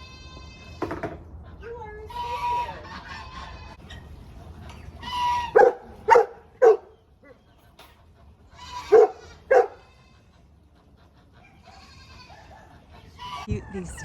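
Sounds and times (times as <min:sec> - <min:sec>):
farm animals calling: 0:00.0 - 0:14.0.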